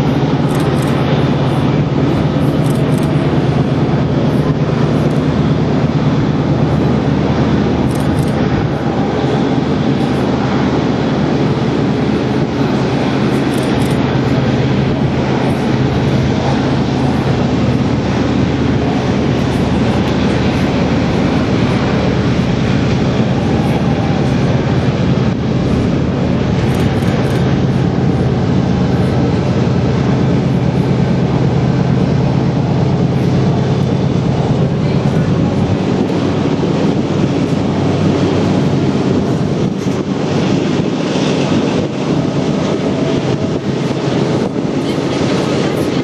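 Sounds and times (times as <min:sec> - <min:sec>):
locomotive engine drone: 0:00.0 - 0:46.0.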